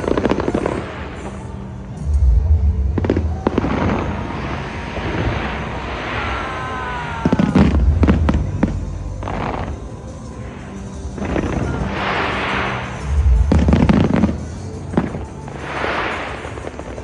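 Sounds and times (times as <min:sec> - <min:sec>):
fireworks bangs and crackling: 0:00.0 - 0:17.0
fireworks booming: 0:00.0 - 0:17.0.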